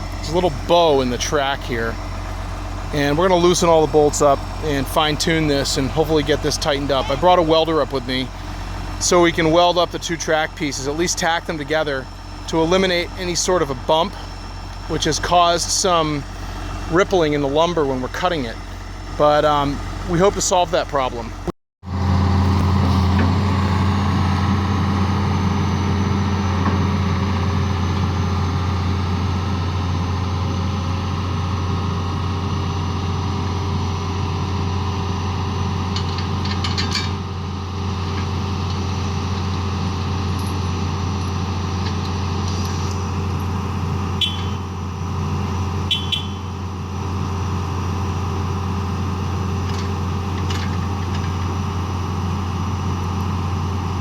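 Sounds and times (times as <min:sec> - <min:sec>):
engine droning steadily: 0:00.0 - 0:54.0.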